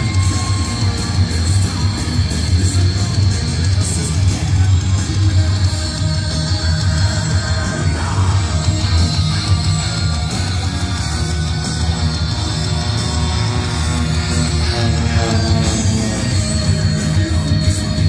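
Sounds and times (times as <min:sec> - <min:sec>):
rock music with electric guitar: 0:00.0 - 0:18.0.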